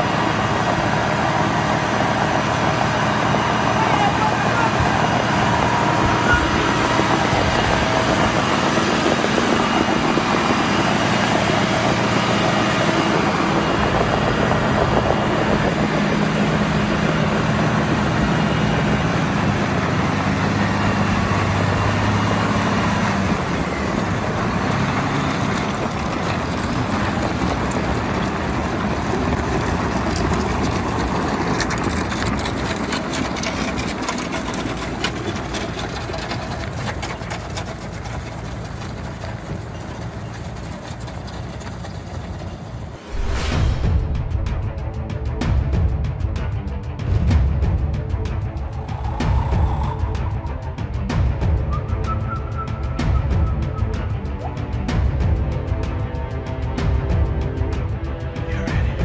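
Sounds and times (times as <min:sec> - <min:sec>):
heavy diesel truck engines: 0:00.0 - 0:43.6, 0:44.7 - 0:59.0.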